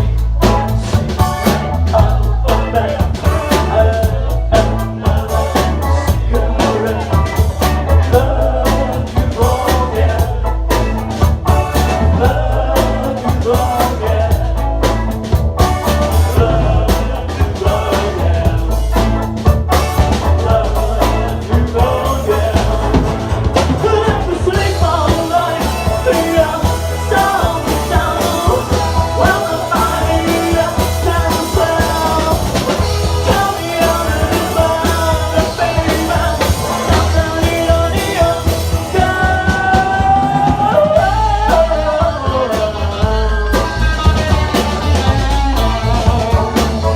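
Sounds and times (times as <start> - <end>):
drum kit: 0.0 - 46.9
heavy bass: 0.0 - 46.9
melodic lead guitar lines: 0.0 - 46.9.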